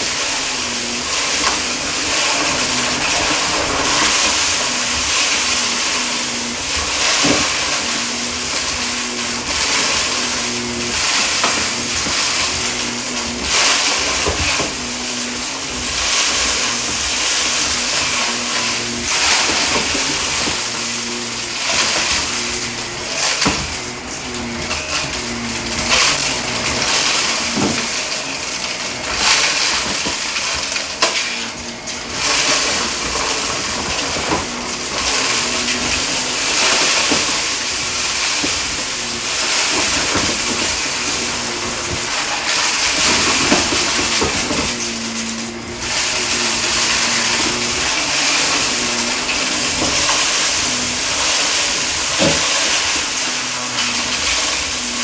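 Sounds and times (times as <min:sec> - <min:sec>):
debris crunching and rattling: 0:00.0 - 0:55.0
vacuum cleaner motor: 0:00.0 - 0:55.0.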